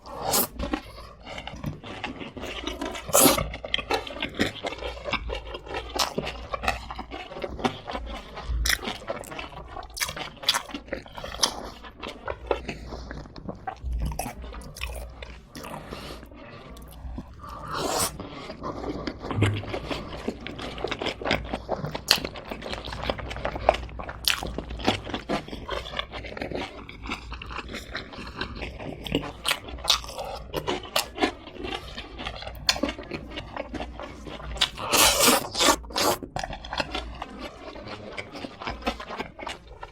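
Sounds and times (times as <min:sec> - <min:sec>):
person chewing crispy fried chicken: 0:00.0 - 0:39.9.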